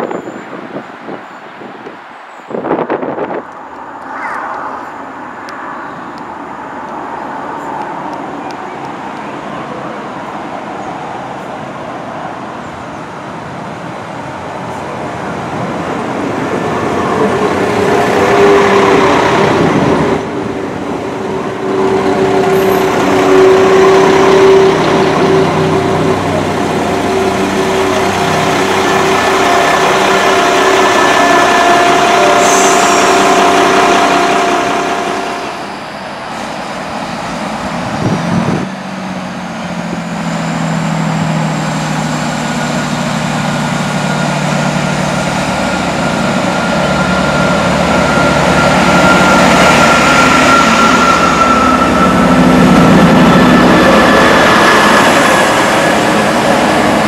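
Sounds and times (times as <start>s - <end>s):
diesel train rumbling: 0.0s - 57.0s
diesel engines humming: 2.6s - 57.0s.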